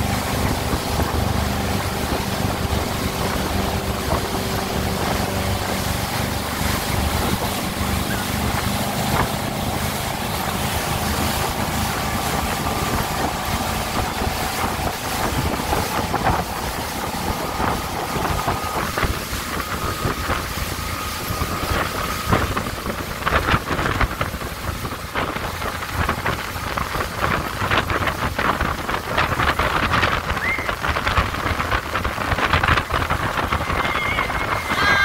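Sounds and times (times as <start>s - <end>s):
motorboat running at speed: 0.0s - 35.0s
rush of spray: 0.0s - 35.0s
wind buffeting microphone: 0.0s - 35.0s.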